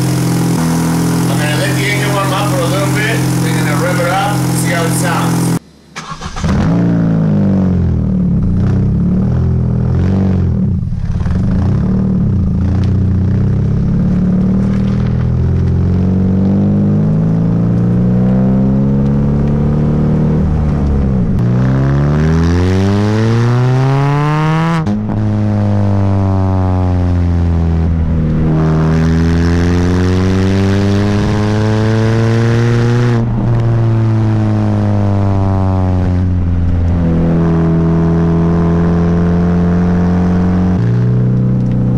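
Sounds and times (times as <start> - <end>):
car engine revving through straight pipe: 0.0 - 5.6, 11.4 - 41.9.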